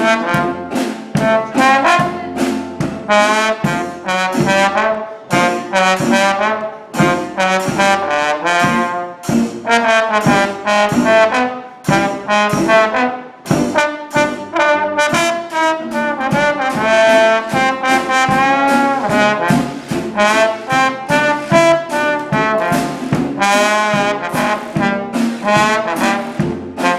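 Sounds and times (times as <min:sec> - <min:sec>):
jazz band rhythm section: 0:00.0 - 0:26.9
trombone solo: 0:00.0 - 0:26.9.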